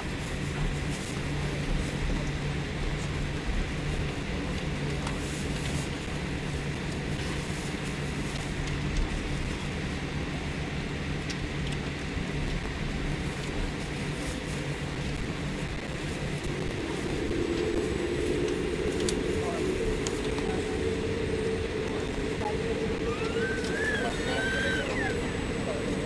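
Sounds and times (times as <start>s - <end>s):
jet engines humming: 0.0s - 26.0s.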